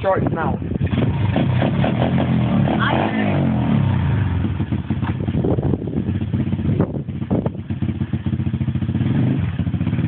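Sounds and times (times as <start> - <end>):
pit bike engine running: 0.0 - 10.0.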